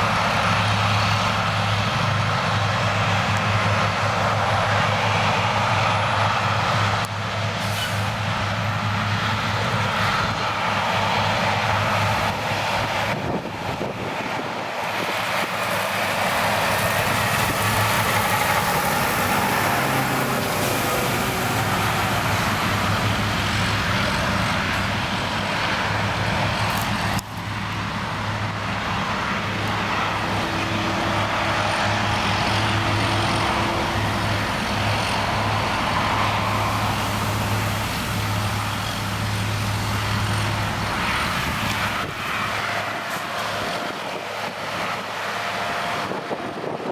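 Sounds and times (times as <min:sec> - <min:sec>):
engine and motor hum: 0:00.0 - 0:46.9.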